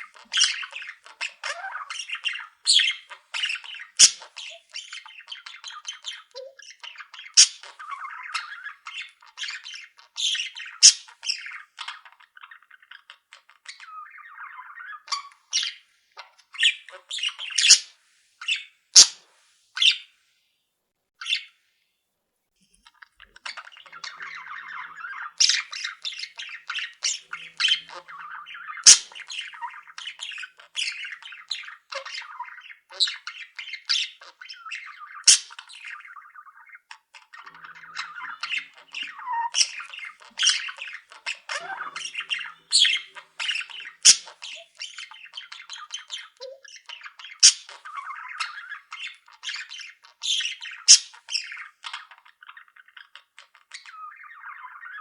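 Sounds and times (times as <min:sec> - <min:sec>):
budgerigar squawks: 0:00.0 - 0:12.6, 0:16.6 - 0:17.9, 0:18.5 - 0:19.2, 0:23.2 - 0:55.0
budgerigars chattering: 0:00.0 - 0:19.2, 0:19.8 - 0:20.0, 0:22.8 - 0:55.0.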